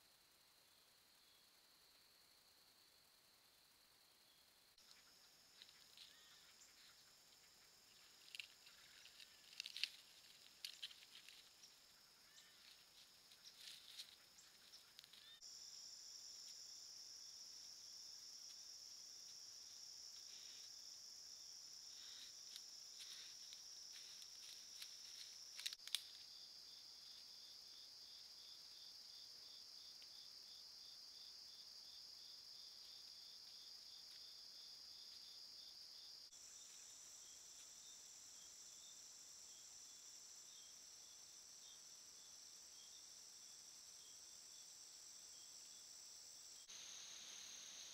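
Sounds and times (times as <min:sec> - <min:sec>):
crickets and night insects trilling: 0:00.0 - 0:47.9
insect rapid pulsing call: 0:00.0 - 0:47.9.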